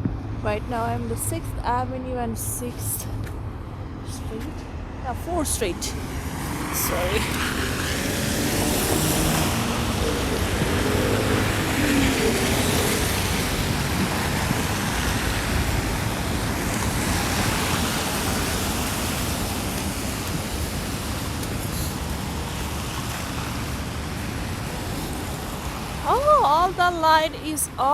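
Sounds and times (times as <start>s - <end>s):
vehicle engine humming: 0.0s - 27.9s
tyre noise on snowy road: 2.7s - 27.2s.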